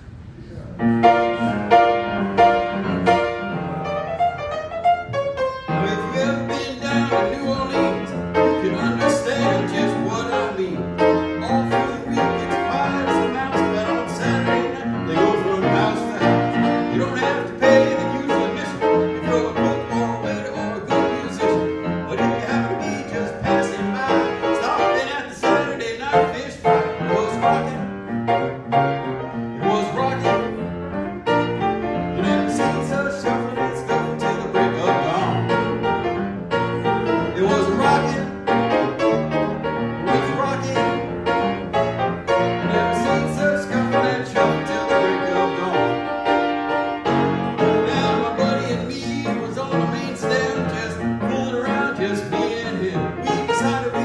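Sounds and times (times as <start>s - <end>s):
piano-led instrumental music: 0.0s - 54.0s.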